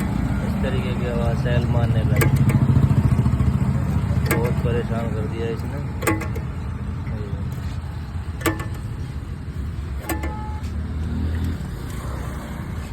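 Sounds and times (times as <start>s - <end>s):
car engine rumbling: 0.0s - 12.9s.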